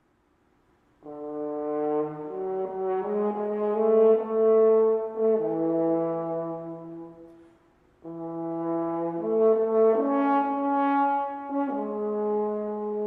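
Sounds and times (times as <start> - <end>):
french horn playing held notes: 1.0 - 13.0.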